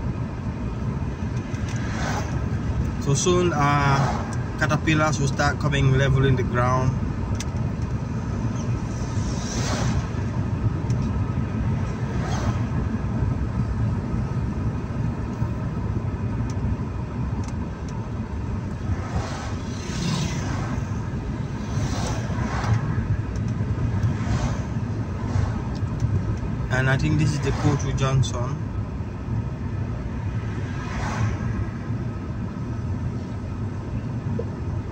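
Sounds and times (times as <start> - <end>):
car interior road rumble: 0.0 - 34.9
passing vehicles whooshing: 0.0 - 34.9.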